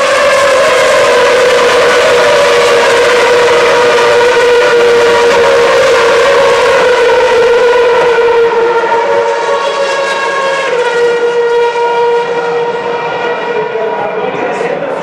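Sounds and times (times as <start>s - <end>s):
racing car engines high-pitched chorus: 0.0s - 15.0s.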